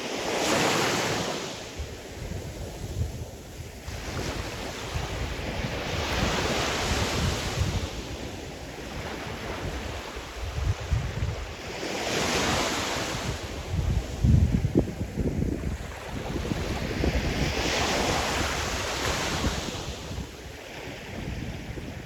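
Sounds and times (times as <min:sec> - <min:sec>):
wind rumbling on microphone: 0:01.1 - 0:22.0.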